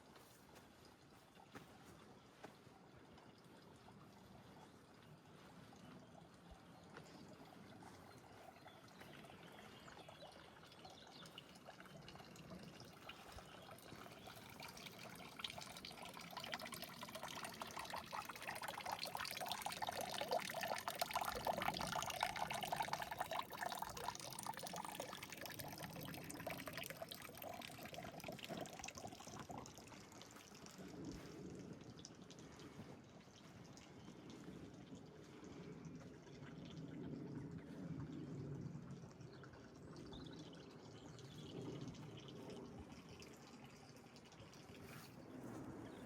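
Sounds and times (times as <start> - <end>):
water running and splashing: 0.0 - 45.4.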